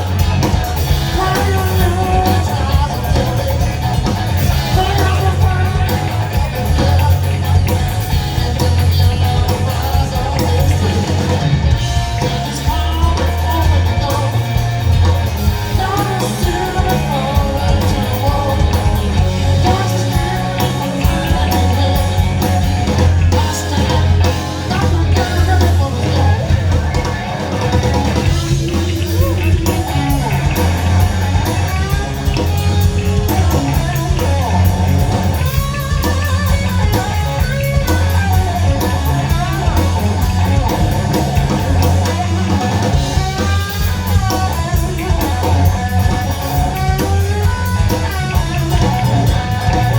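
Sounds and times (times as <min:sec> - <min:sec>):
blues-rock band playing: 0:00.0 - 0:49.9
electric guitar: 0:00.0 - 0:49.9.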